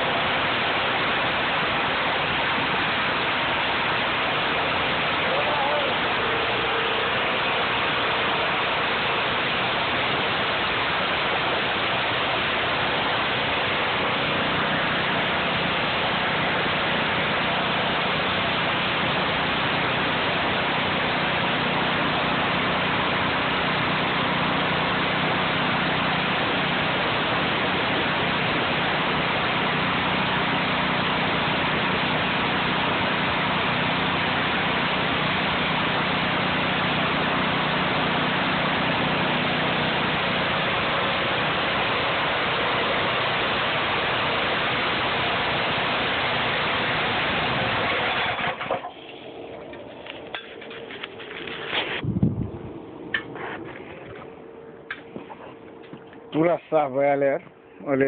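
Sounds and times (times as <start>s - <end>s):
pressure washer water spray: 0.0s - 52.1s
motor hum: 0.0s - 58.0s.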